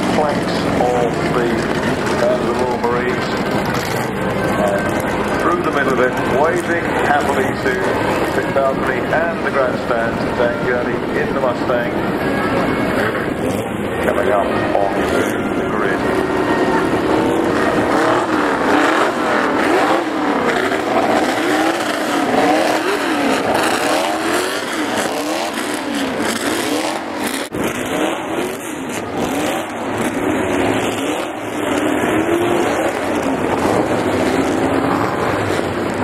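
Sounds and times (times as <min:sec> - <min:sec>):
racing car engines revving past: 0:00.0 - 0:36.0.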